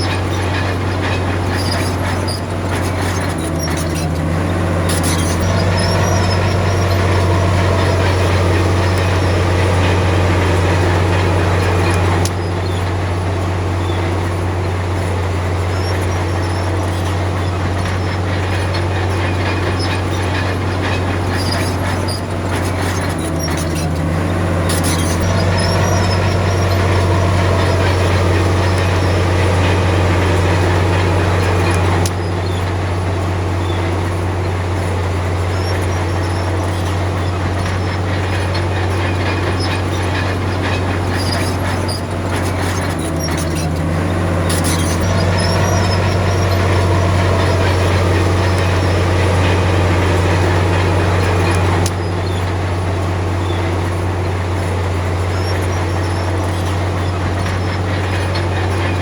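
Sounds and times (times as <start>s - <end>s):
diesel earthmoving machinery: 0.0s - 59.0s.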